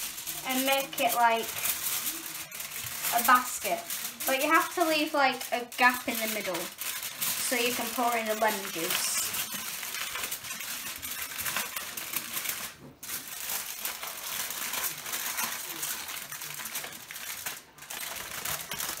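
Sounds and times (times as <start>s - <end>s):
aluminium foil crinkling: 0.0s - 19.0s.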